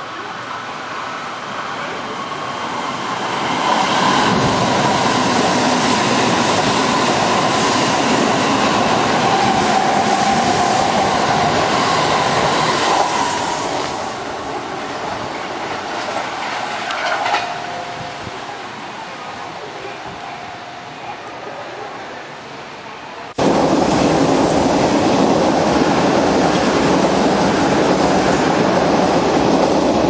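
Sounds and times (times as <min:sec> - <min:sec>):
electric train passing at speed: 0:00.0 - 0:30.0.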